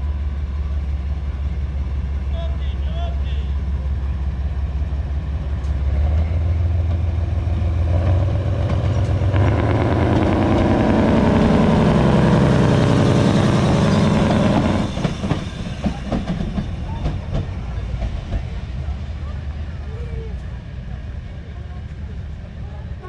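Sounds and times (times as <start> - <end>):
diesel locomotive engine revving: 0.0 - 23.0.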